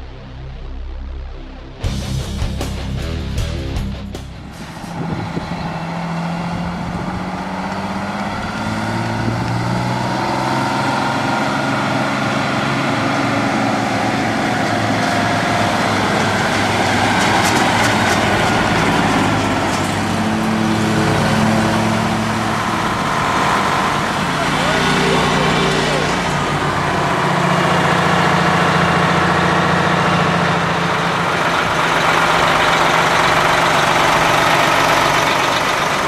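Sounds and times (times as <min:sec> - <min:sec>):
truck diesel engine running: 0:01.8 - 0:36.0.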